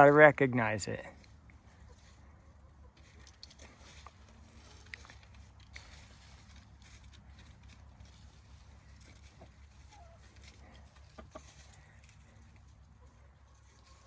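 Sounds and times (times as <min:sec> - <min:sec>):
chickens clucking: 0:01.2 - 0:14.0.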